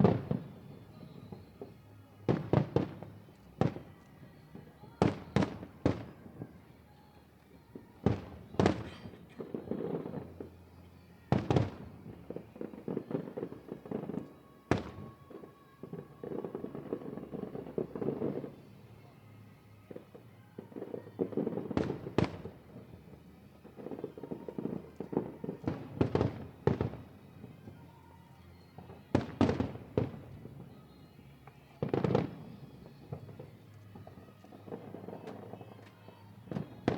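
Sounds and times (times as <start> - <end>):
fireworks crackling: 0.0 - 36.9.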